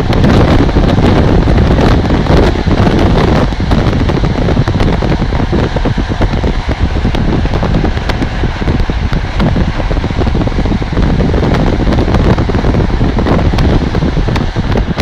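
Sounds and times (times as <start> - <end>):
train rumbling on rails: 0.0 - 15.0
wind buffeting microphone: 0.0 - 15.0.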